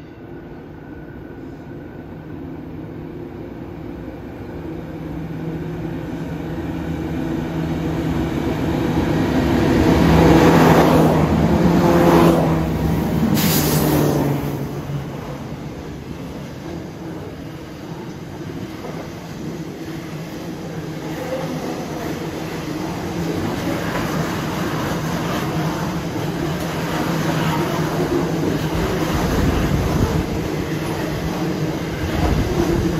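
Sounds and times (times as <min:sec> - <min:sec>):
diesel locomotive engines: 0:00.0 - 0:32.9
train wagons rumbling on rails: 0:05.1 - 0:32.9.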